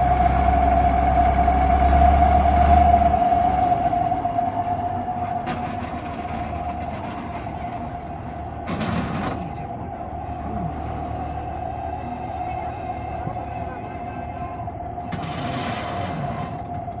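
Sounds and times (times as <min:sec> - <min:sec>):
high machinery whine: 0:00.0 - 0:17.0
low engine hum: 0:00.0 - 0:17.0.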